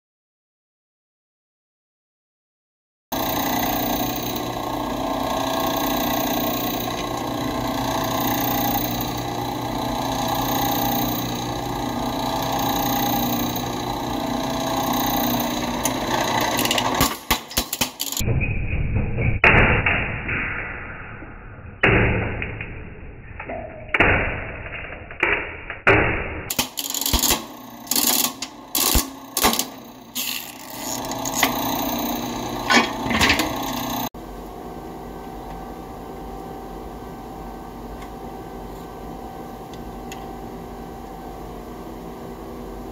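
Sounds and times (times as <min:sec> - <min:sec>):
machine hum: 0:03.2 - 0:42.9.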